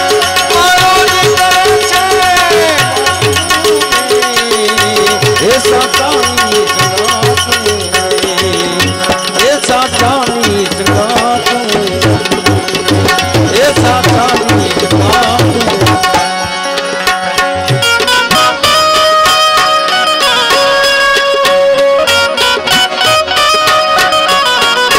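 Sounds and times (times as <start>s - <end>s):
sliding melodic line: 0.0s - 24.9s
tabla beat: 0.0s - 24.9s.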